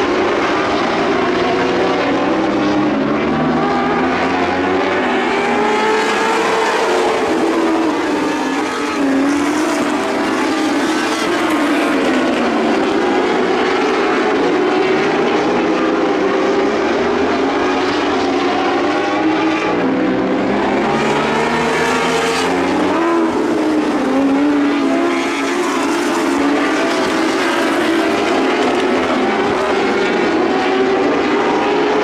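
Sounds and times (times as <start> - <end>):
sprint car engines racing: 0.0 - 32.0.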